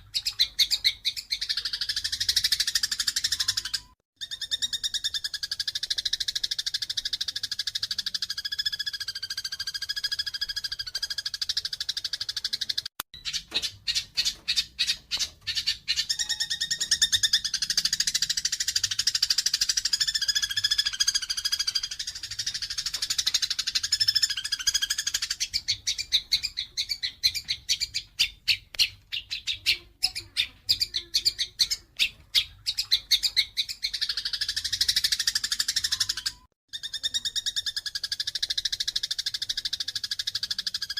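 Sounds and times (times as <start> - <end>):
sharp sparrow chirps: 0.0 - 40.9
sparrows chattering: 0.0 - 40.9.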